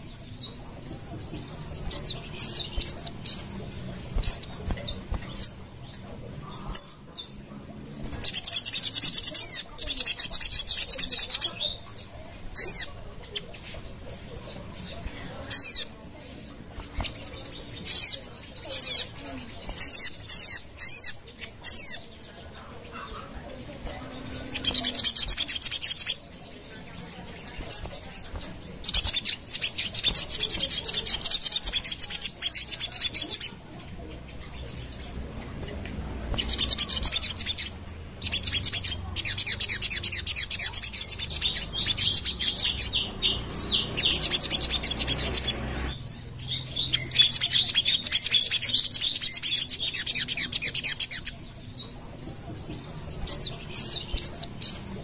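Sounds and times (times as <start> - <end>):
bird chattering trills: 0.0 - 55.0
bird chips: 0.0 - 55.0.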